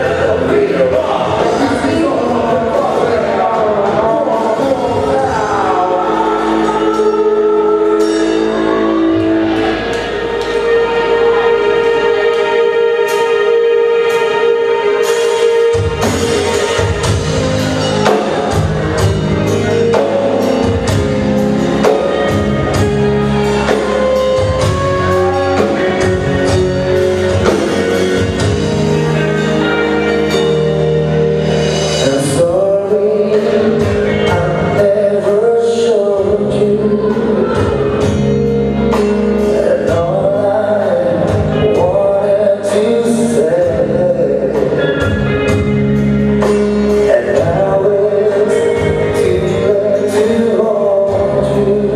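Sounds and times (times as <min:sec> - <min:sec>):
drum kit beat: 0:00.0 - 0:51.9
guitar: 0:00.0 - 0:51.9
keyboards: 0:00.0 - 0:51.9
person singing: 0:00.0 - 0:51.9.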